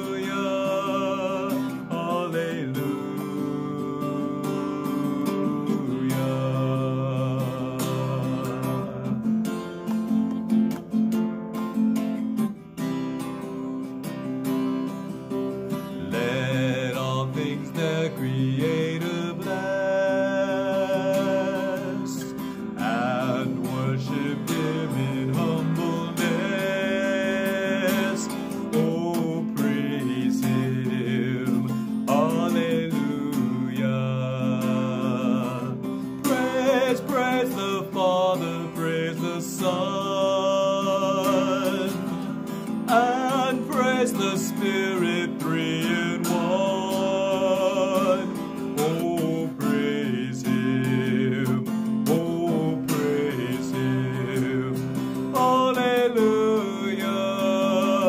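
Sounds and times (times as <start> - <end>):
man singing a hymn: 0.0 - 9.6, 15.7 - 58.0
strummed acoustic guitar: 0.0 - 58.0.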